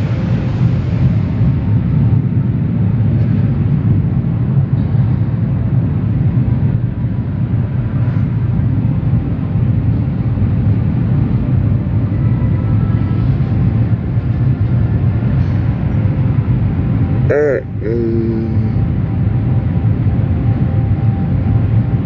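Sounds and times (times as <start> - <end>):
car wash machinery rumbling: 0.0 - 22.0.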